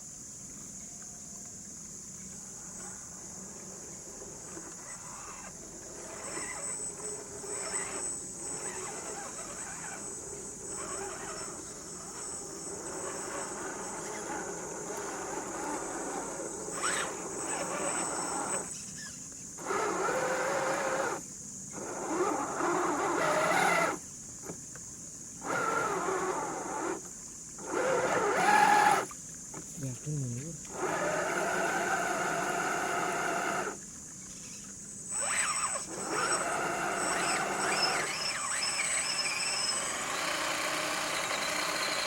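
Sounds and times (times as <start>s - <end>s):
electric motor whining: 4.0s - 24.6s, 25.4s - 29.2s, 29.9s - 33.8s, 35.0s - 42.0s.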